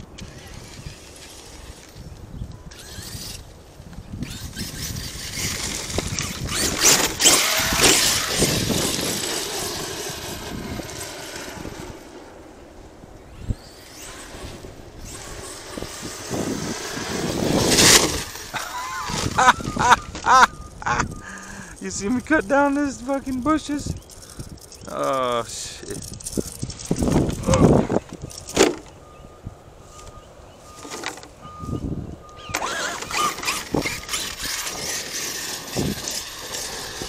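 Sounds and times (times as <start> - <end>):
electric rc truck motor whining: 0.0 - 29.3, 30.7 - 37.0
tires churning dirt: 0.0 - 37.0.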